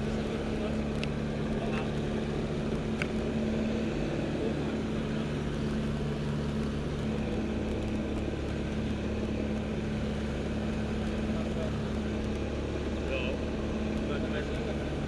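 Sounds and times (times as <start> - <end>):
propeller engine drone in cockpit: 0.0 - 15.0.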